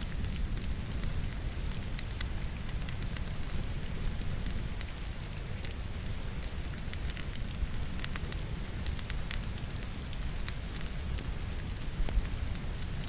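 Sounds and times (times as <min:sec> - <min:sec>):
fire crackling and popping: 0:00.0 - 0:13.0
rain falling: 0:00.0 - 0:13.0.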